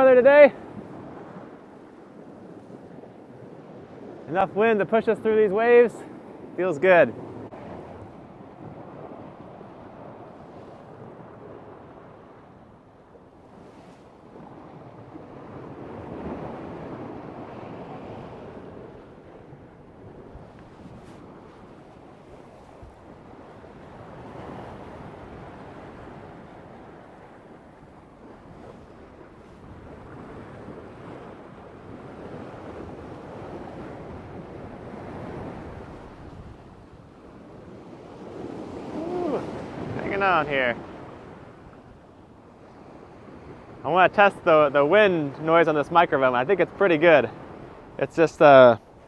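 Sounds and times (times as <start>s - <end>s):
wind on microphone: 0.0s - 43.9s
water rushing along hull: 0.0s - 49.0s.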